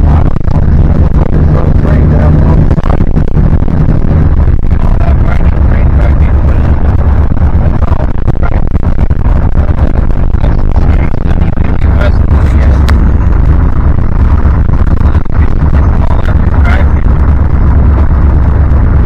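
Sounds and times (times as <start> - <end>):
engine and road noise drone: 0.0 - 19.0
wind buffeting microphone: 0.0 - 19.0.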